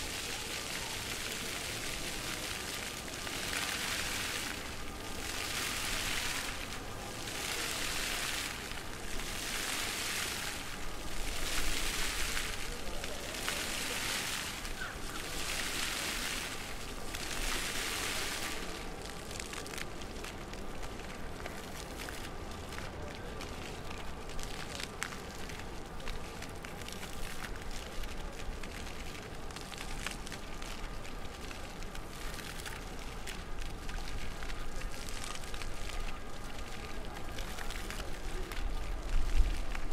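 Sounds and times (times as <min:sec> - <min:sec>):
fountain jets splashing on paving: 0:00.0 - 0:39.9.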